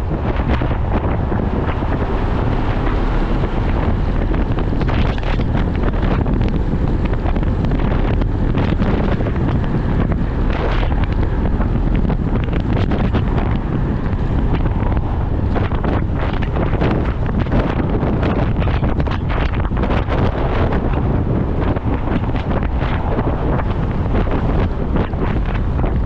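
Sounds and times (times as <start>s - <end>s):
motorcycle engine: 0.0s - 23.1s
road noise: 0.0s - 26.0s
wind buffeting microphone: 0.0s - 26.0s.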